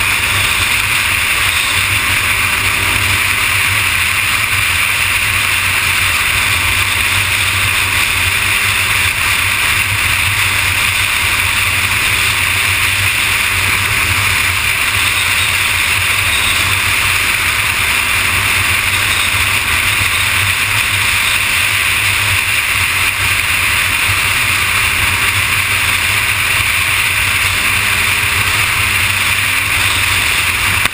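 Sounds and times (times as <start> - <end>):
motorcycle engine running: 0.0 - 30.9
wind and road noise: 0.0 - 30.9.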